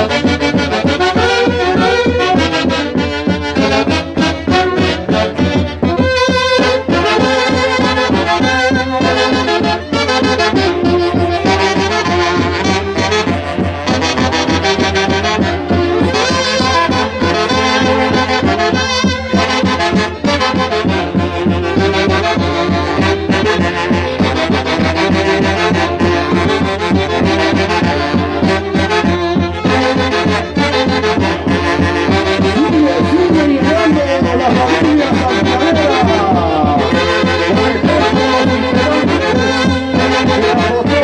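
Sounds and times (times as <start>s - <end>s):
saxophones playing a melody: 0.0s - 41.0s.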